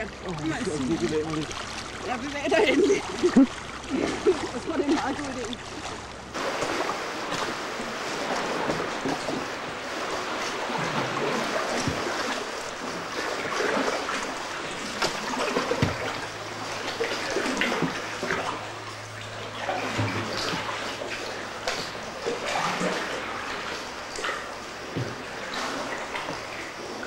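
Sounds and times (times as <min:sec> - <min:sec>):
low steady hum: 0:00.0 - 0:27.0
sea water lapping against rock: 0:00.0 - 0:27.0
water trickling: 0:00.0 - 0:27.0.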